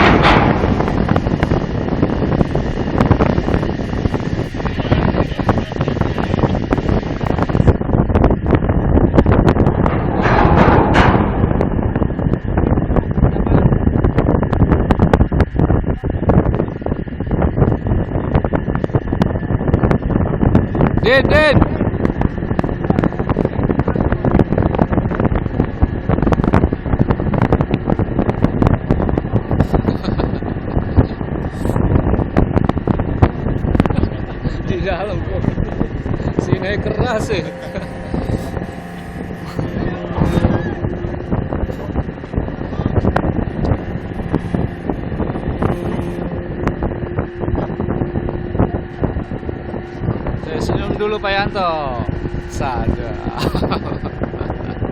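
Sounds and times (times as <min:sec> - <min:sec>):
low rumble: 0:00.0 - 0:54.9
steady mechanical hum: 0:00.0 - 0:54.9
wind buffeting microphone: 0:00.0 - 0:54.9.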